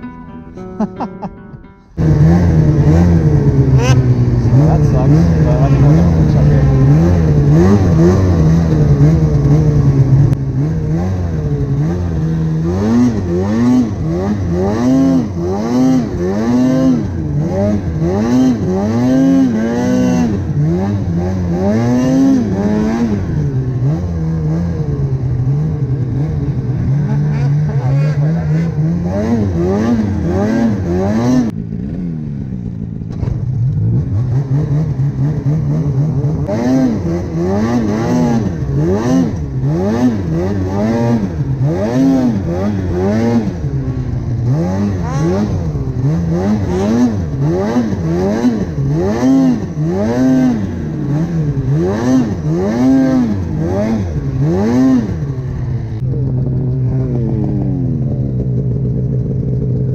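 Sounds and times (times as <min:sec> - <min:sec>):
snowmobile engine revving: 0:02.0 - 0:59.9.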